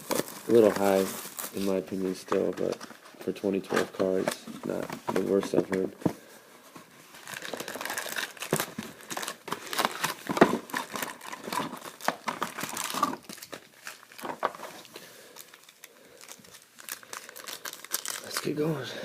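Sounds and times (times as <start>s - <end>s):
plastic wrapping crinkling and tearing: 0.0s - 6.0s, 6.9s - 18.9s.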